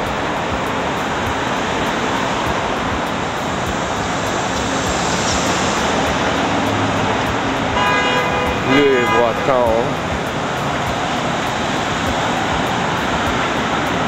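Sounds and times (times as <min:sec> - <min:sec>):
passing street traffic: 0:00.0 - 0:14.0.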